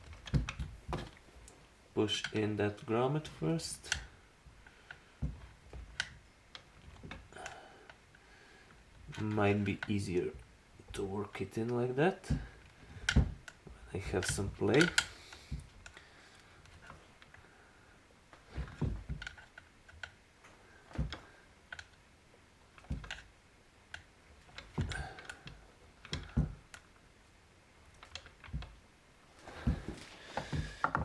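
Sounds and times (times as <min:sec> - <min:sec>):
small parts clicking and knocking: 0:00.0 - 0:17.5, 0:18.2 - 0:28.9, 0:29.5 - 0:31.0.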